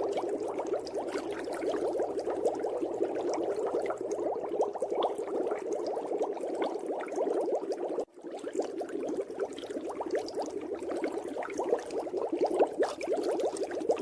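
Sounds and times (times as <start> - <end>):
underwater bubbling: 0.0 - 14.0.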